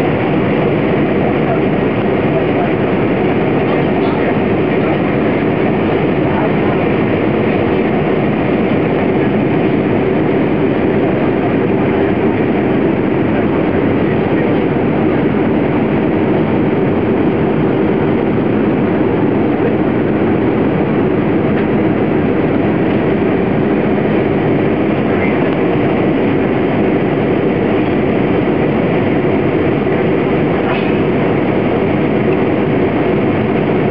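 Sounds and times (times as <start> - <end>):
airplane cabin drone: 0.0 - 33.9.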